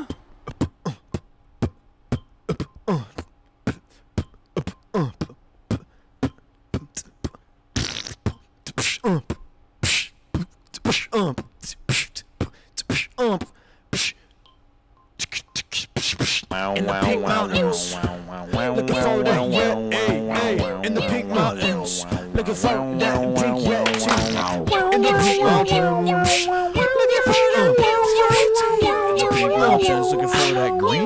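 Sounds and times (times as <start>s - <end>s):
beatboxing: 0.0s - 14.4s, 15.2s - 31.0s.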